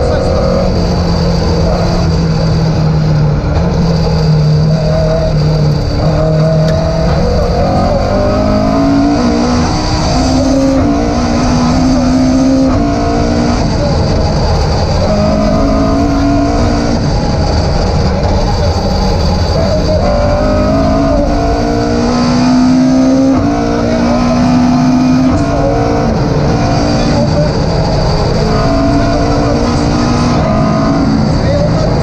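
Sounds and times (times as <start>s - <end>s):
car engine accelerating hard: 0.0s - 32.0s
road noise rumble: 0.0s - 32.0s.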